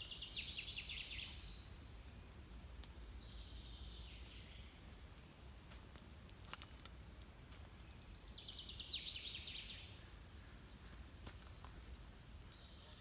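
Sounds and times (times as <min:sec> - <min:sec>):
songbird singing: 0:00.0 - 0:05.6, 0:07.6 - 0:13.0
faint background noise: 0:00.0 - 0:13.0.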